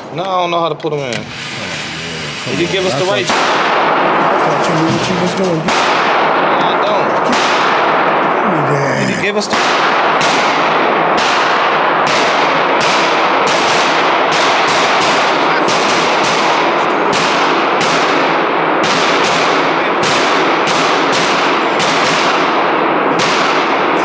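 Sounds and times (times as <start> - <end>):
constant loud din: 0.0 - 24.0
gunshots echoing: 3.2 - 8.4, 9.2 - 24.0.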